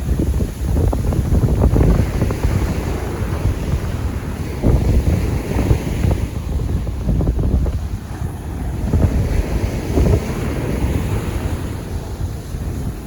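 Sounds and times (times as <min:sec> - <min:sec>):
surf washing on shore: 0:00.0 - 0:13.0
wind buffeting microphone: 0:00.0 - 0:13.0.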